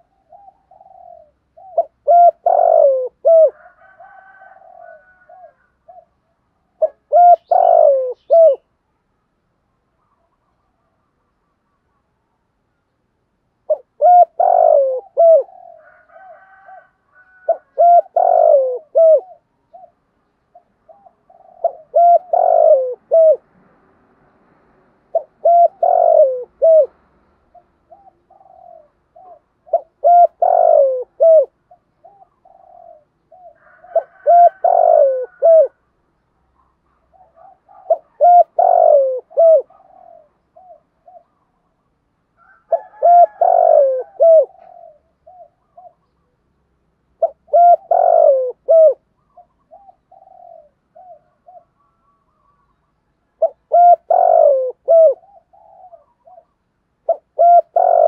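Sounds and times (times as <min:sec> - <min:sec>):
dove cooing: 0:00.0 - 0:08.7, 0:13.6 - 0:23.5, 0:25.1 - 0:35.9, 0:36.5 - 0:41.8, 0:42.4 - 0:46.4, 0:47.1 - 0:58.0.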